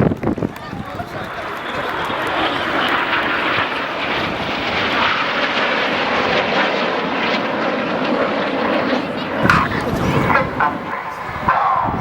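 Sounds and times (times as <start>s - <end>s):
jet engines flying past: 0.0s - 12.0s.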